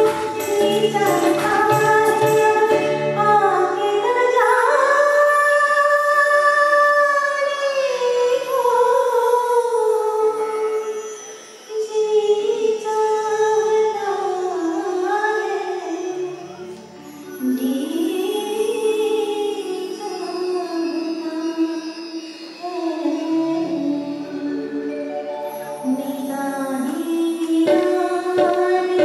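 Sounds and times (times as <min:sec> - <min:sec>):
woman singing into microphone: 0:00.0 - 0:16.8, 0:17.4 - 0:29.0.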